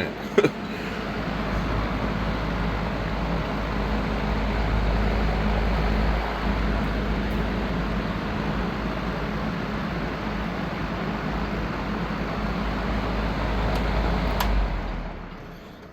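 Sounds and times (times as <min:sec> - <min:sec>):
box fan air rush and motor hum: 0:00.0 - 0:15.9.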